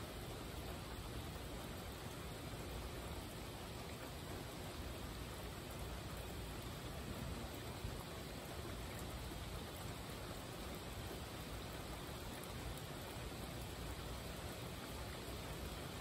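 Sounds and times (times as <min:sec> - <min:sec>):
steady rainfall hiss: 0:00.0 - 0:16.0.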